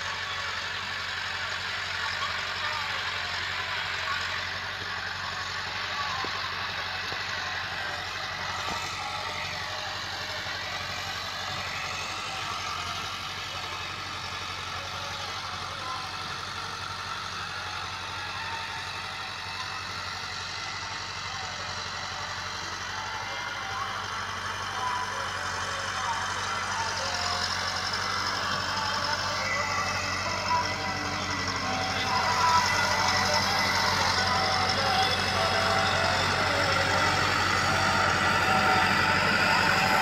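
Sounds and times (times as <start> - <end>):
distant tractor engine drone: 0.0 - 40.0.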